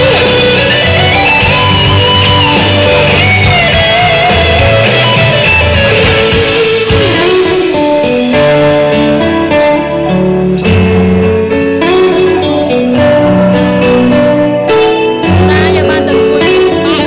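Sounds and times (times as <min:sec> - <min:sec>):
loud guitar music over speakers: 0:00.0 - 0:17.0.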